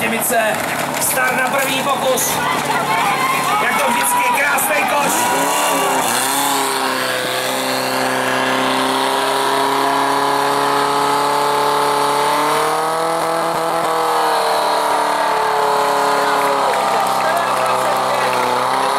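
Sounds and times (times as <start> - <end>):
pump engine running flat out: 0.0 - 18.9.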